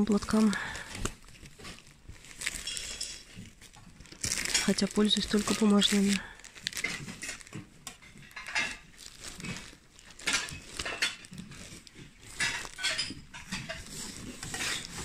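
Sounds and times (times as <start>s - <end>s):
rustling and crinkling textiles: 0.0s - 15.0s.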